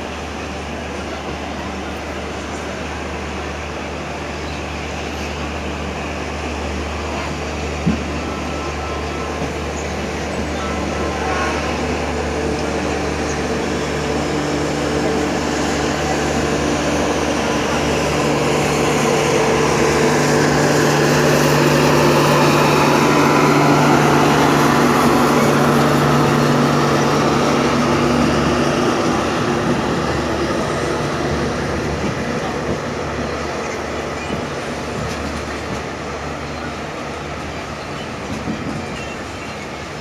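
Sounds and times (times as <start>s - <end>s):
diesel locomotive engine drone: 0.0s - 40.0s
train running rumble: 0.0s - 40.0s.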